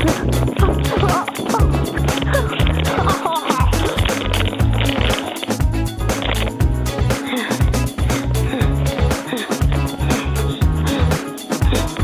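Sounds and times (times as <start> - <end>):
music with heavy bass line: 0.0 - 12.0.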